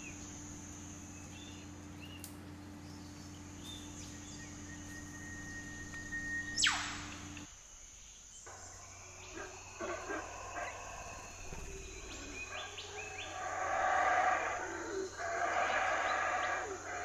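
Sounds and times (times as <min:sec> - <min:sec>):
bird calls and chirps: 0:00.0 - 0:17.0
high insect drone: 0:00.0 - 0:17.0.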